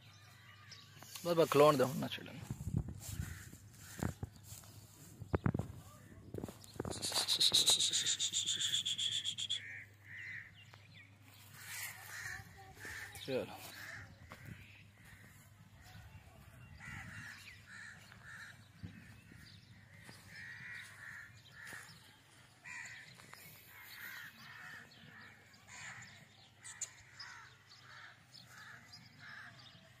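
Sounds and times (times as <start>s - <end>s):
faint crows cawing: 3.0s - 5.1s, 7.8s - 30.0s.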